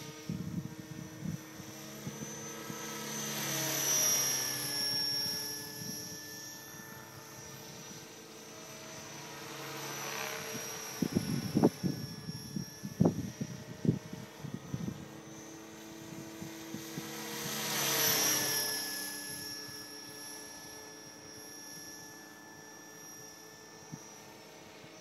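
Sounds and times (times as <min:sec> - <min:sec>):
model helicopter rotor whine: 0:00.0 - 0:25.0.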